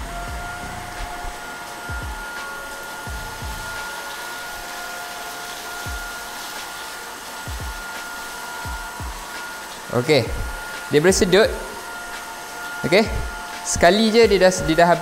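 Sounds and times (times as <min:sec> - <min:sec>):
stick vacuum motor whine: 0:00.0 - 0:15.0.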